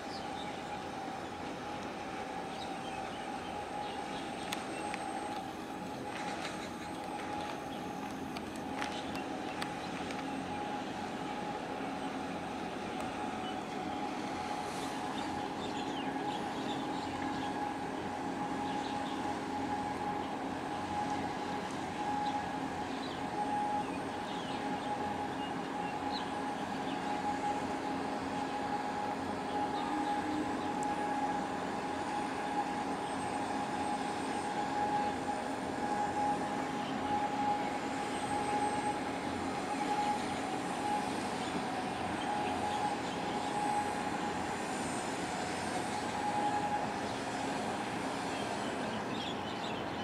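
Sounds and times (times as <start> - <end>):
constant hum: 0.0 - 50.0
ship engine drone: 0.0 - 50.0.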